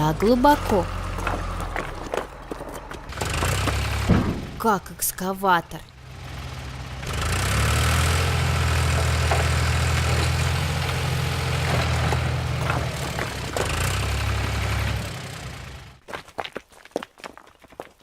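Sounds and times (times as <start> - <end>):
wheel loader engine rumbling: 0.0 - 16.0.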